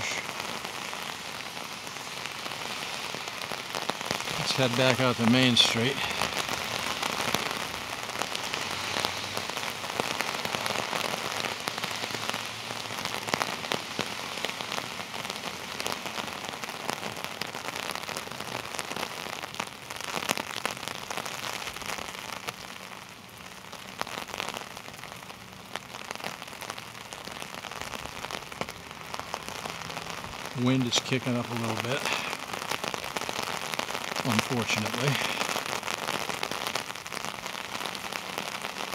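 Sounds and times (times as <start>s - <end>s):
heavy rain falling: 0.0s - 38.9s
raindrops hitting near microphone: 0.0s - 38.9s.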